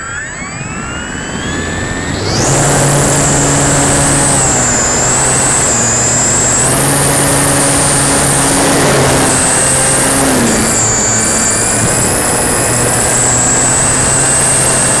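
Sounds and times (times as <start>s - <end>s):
electric motor high whine: 0.0s - 15.0s
rushing wind and prop-wash: 0.0s - 15.0s.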